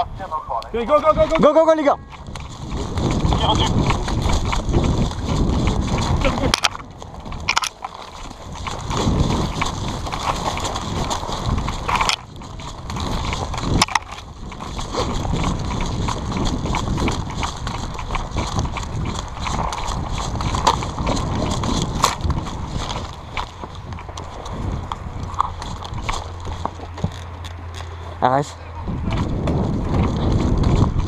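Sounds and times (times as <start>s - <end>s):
rapid footsteps on rough ground: 0.0s - 31.0s
gear jostling and thumping: 0.8s - 28.2s, 28.8s - 31.0s.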